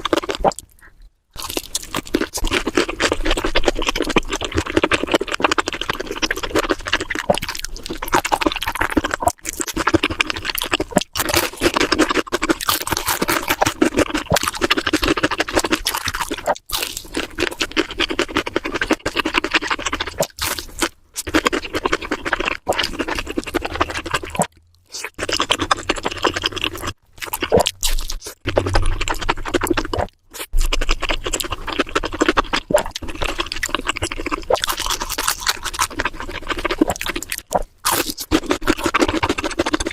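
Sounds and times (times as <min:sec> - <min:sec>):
person chewing crispy food: 0:00.0 - 0:39.9.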